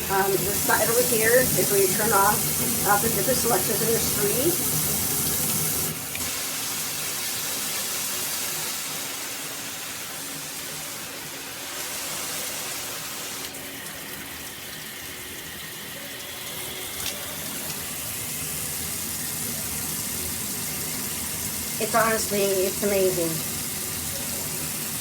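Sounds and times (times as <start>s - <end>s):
shower head spraying water: 0.0s - 25.0s.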